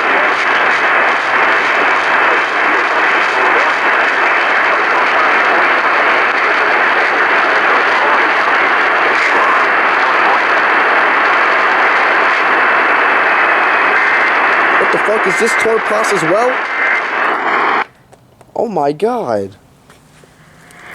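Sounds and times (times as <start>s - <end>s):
radio static hiss: 0.0s - 20.9s.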